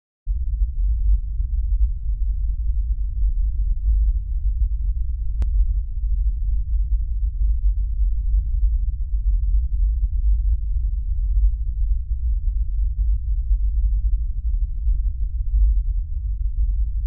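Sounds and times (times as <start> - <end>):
steady low rumble: 0.3 - 17.0.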